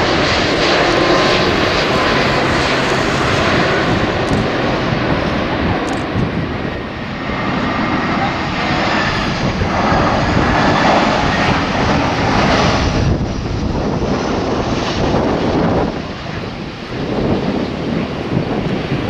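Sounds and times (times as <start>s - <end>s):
jet airliner engines: 0.0s - 19.0s.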